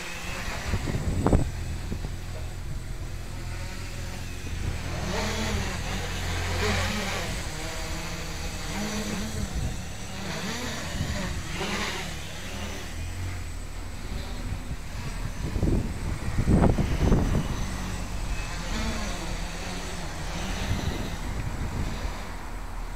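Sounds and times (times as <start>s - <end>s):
quadcopter propellers buzzing: 0.0s - 22.9s.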